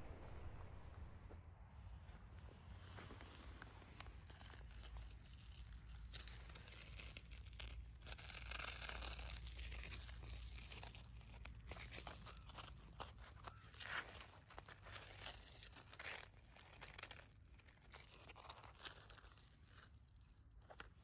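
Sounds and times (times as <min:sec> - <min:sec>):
frozen leaves crackling: 0:02.0 - 0:21.0.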